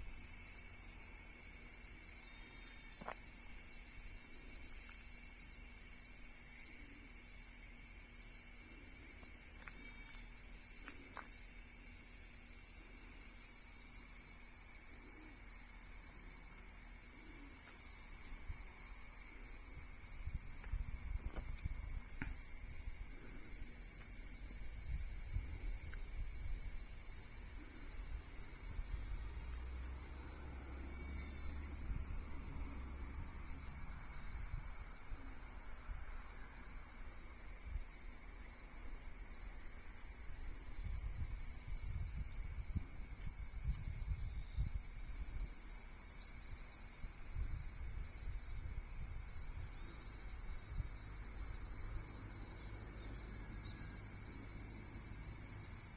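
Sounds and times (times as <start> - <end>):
insects buzzing: 0.0 - 55.9.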